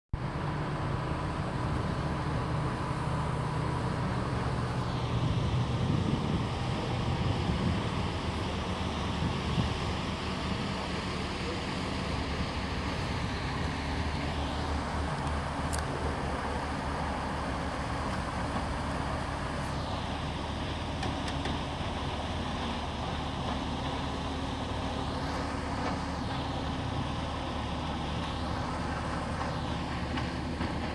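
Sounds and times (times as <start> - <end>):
outboard motors whining: 0.2 - 30.9
ship engine drone: 0.2 - 30.9
water rushing along hull: 0.2 - 30.9.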